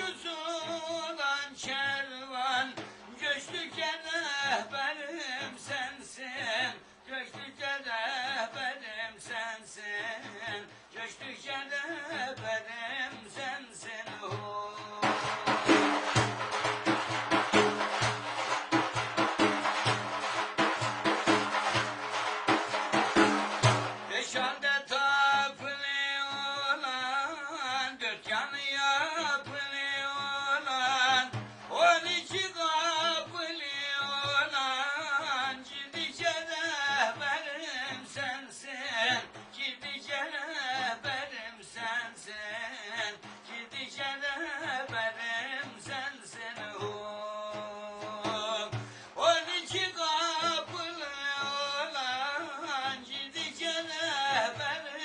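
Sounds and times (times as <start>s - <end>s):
man singing devotional hymn: 0.0s - 55.0s.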